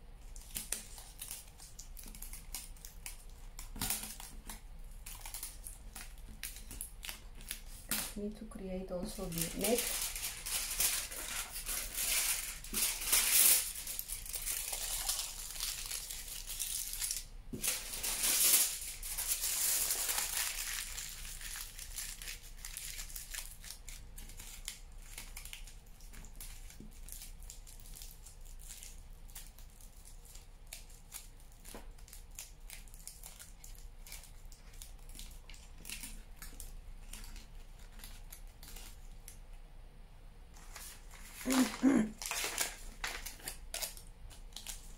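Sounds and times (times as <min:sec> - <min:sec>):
aluminium foil crinkling: 0:00.2 - 0:39.5, 0:40.6 - 0:44.9.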